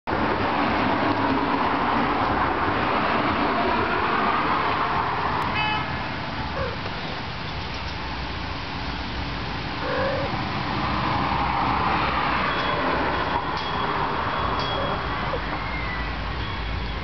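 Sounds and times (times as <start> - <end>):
vehicle passing: 0.1 - 7.4, 8.0 - 17.0.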